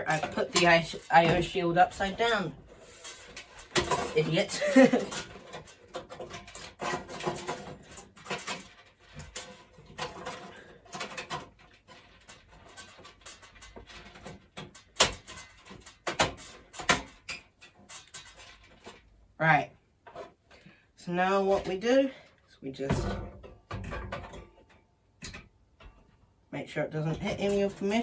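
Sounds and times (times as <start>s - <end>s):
sheet metal clicks and rattles: 0.0s - 19.2s, 22.8s - 26.4s, 27.0s - 28.0s.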